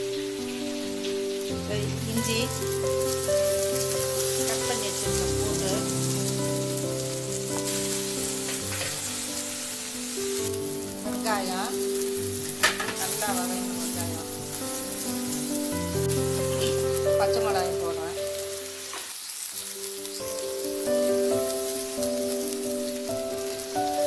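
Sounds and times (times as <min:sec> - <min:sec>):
background music: 0:00.0 - 0:18.9, 0:19.8 - 0:24.0
spices sizzling in hot oil: 0:00.0 - 0:24.0.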